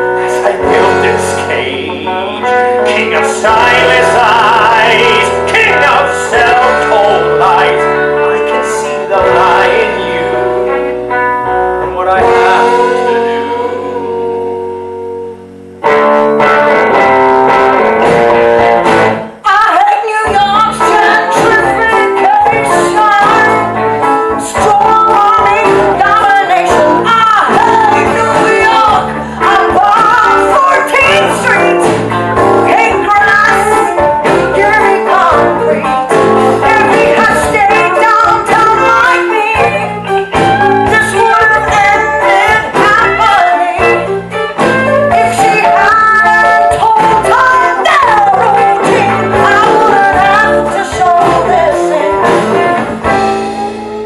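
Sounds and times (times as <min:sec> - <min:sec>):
person singing: 0:00.0 - 0:11.0, 0:11.7 - 0:14.7, 0:19.3 - 0:54.0
live band playing: 0:00.0 - 0:54.0.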